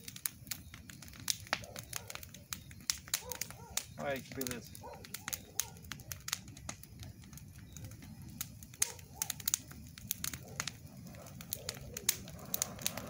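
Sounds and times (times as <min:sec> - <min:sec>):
bonfire popping and crackling: 0:00.0 - 0:13.0
low steady fire noise: 0:00.0 - 0:13.0.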